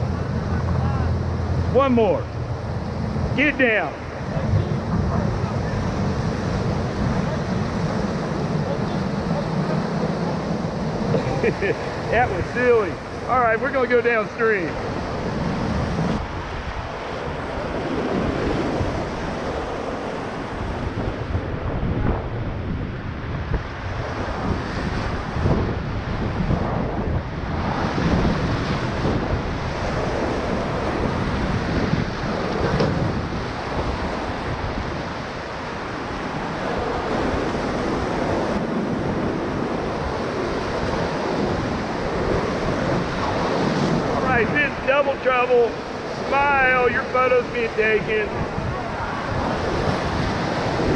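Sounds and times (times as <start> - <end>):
river water rushing: 0.0 - 20.6, 29.9 - 50.9
wind noise on microphone: 0.0 - 50.9.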